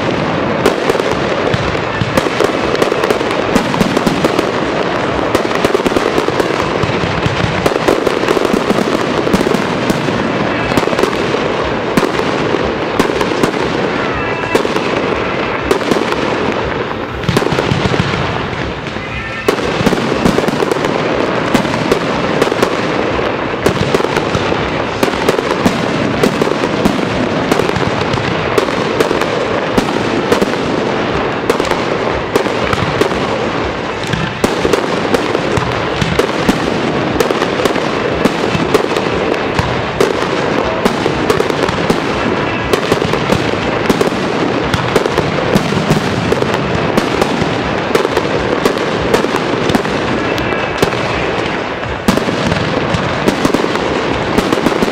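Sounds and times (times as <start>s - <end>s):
fireworks bangs and pops: 0.0s - 54.9s.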